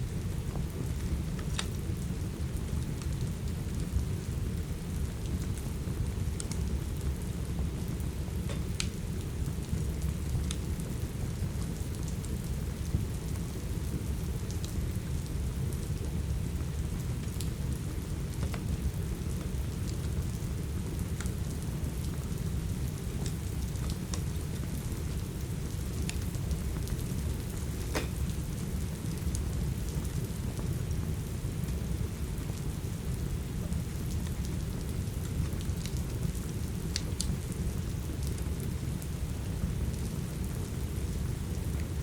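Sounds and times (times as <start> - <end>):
steady rain: 0.0 - 42.0
wood fire crackling and popping: 0.4 - 42.0.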